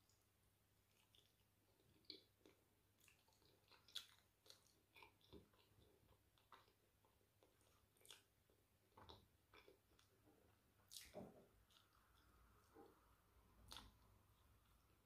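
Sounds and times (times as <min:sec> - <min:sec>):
soft wet chewing: 0:00.0 - 0:15.0.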